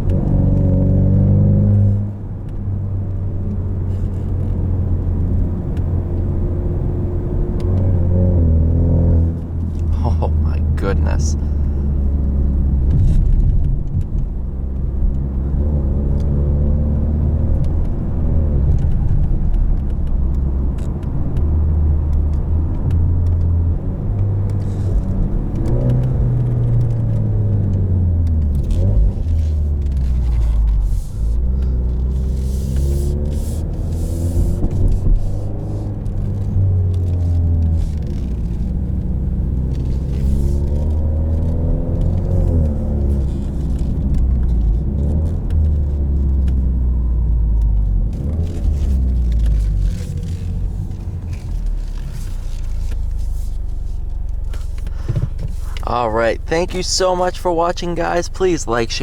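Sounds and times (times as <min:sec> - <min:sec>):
car engine and exhaust accelerating: 0:00.0 - 0:59.0.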